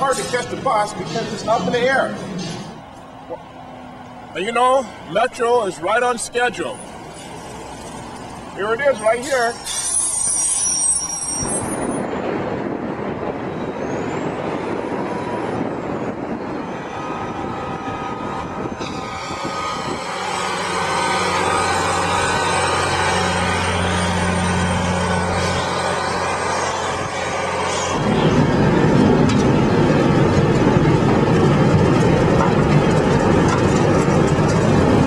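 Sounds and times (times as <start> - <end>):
bus diesel engine running: 0.0 - 11.1, 12.0 - 35.0
fire truck diesel engine droning: 0.0 - 35.0.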